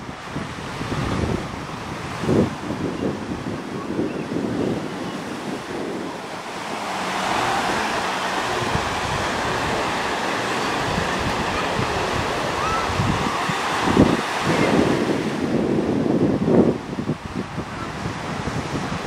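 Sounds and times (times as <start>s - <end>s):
surf breaking on a beach: 0.0s - 19.0s
wind buffeting microphone: 0.0s - 19.0s.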